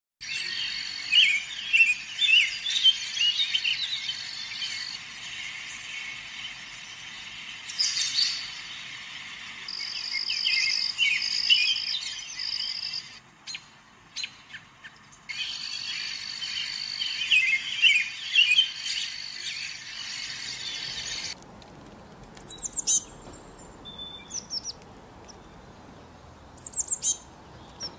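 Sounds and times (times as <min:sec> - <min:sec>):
robin singing: 0:00.2 - 0:21.4, 0:22.0 - 0:27.9.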